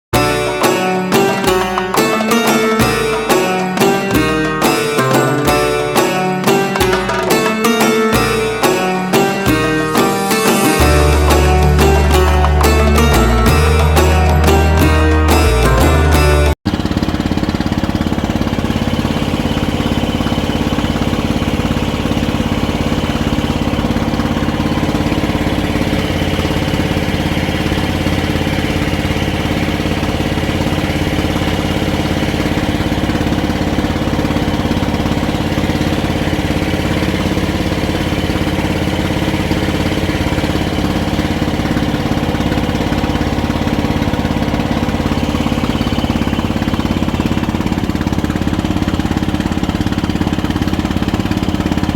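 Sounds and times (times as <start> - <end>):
motorboat engine running: 0.2 - 51.9.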